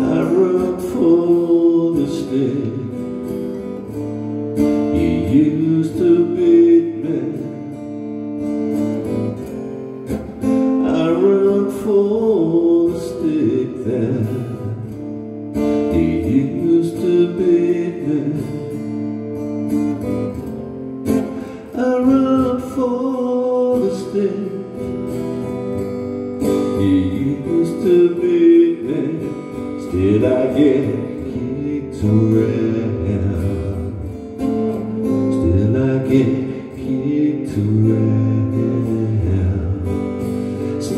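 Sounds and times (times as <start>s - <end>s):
man singing: 0.0s - 8.0s, 8.6s - 40.9s
strummed acoustic guitar: 0.0s - 40.9s.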